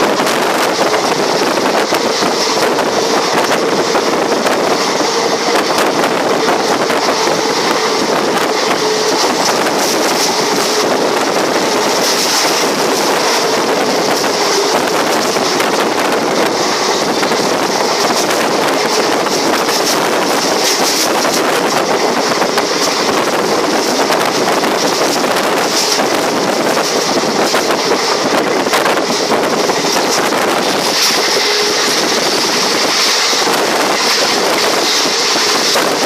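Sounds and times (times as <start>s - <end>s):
train running on track: 0.0s - 36.0s
wind buffeting microphone: 0.0s - 36.0s.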